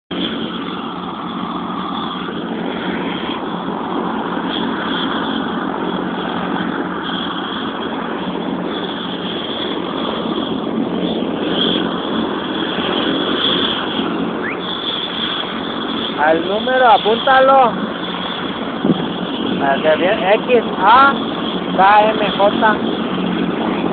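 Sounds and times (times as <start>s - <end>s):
helicopter engine and rotor: 0.1s - 23.9s
high steady whine: 0.1s - 23.9s.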